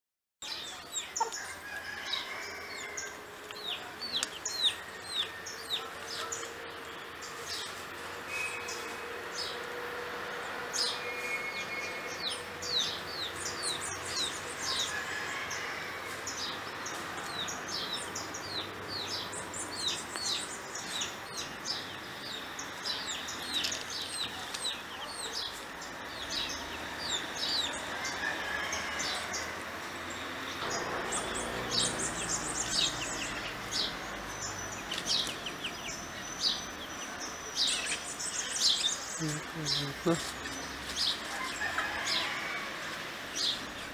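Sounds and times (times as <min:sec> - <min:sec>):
birds chirping: 0:00.4 - 0:43.9.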